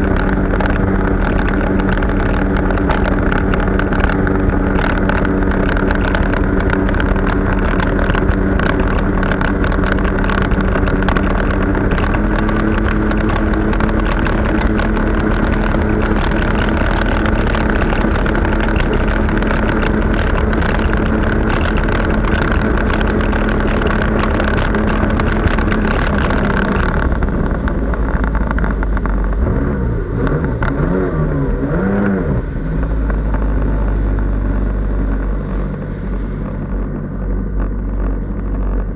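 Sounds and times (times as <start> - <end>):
jet ski engine: 0.0 - 38.9
rushing noise: 0.0 - 38.9.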